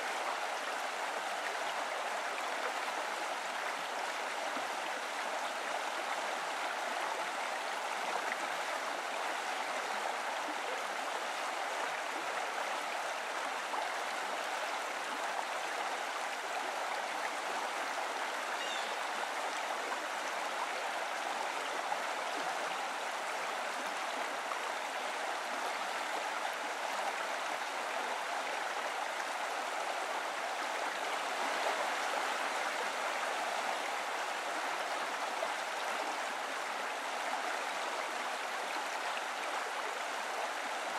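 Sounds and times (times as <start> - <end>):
stream water running: 0.0 - 40.9.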